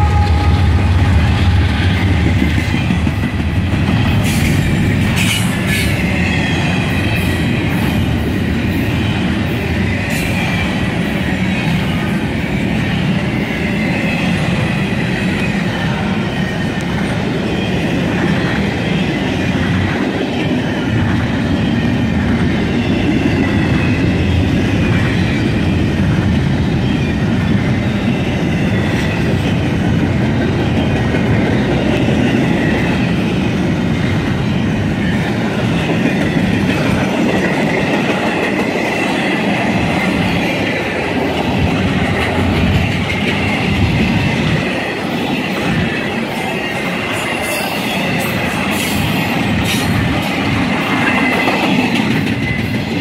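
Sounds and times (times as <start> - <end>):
train wheels rumbling and clattering: 0.0 - 53.0.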